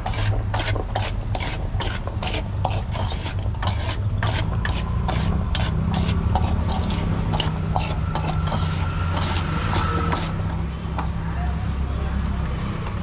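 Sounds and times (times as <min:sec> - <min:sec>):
metal spoon scraping steel bowl: 0:00.0 - 0:11.2.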